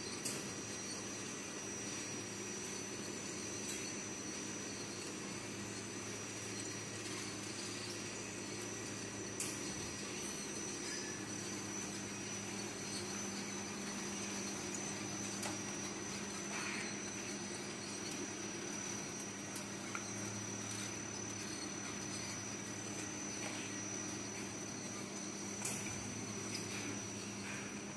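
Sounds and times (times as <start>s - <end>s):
machine motor hum: 0.0s - 27.9s
high whine: 0.2s - 27.9s.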